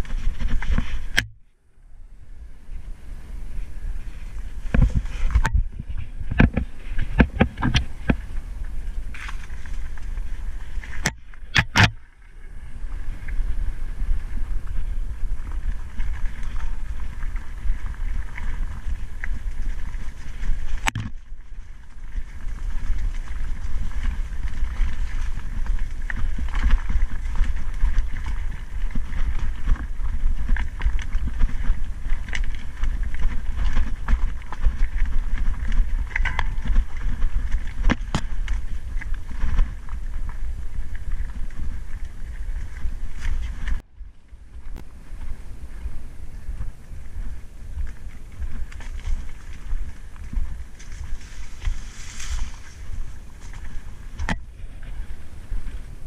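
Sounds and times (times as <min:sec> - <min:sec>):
bike rattling over bumps: 0:00.0 - 0:01.5, 0:03.6 - 0:56.0
bike tyres crunching: 0:00.0 - 0:01.6, 0:02.3 - 0:56.0
wind rumble on microphone: 0:00.0 - 0:56.0.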